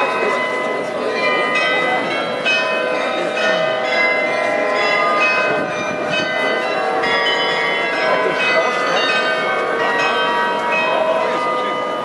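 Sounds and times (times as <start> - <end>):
glockenspiel bells playing a tune: 0.0 - 12.0.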